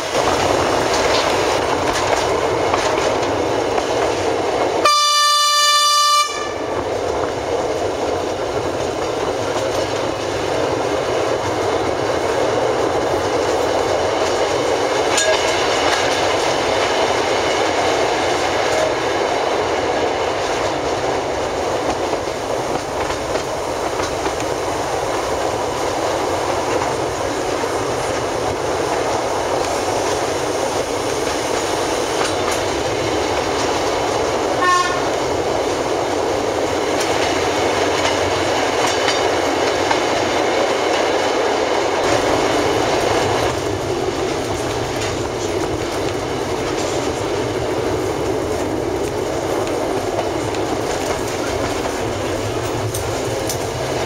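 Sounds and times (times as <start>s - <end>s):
train rumble: 0.0s - 54.0s
wheels clacking on rails: 0.0s - 54.0s.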